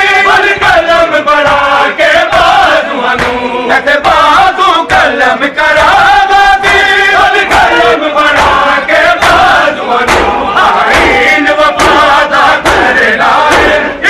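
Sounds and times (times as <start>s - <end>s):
crowd of men chanting: 0.0s - 14.0s
chest-beating slaps: 0.2s - 14.0s.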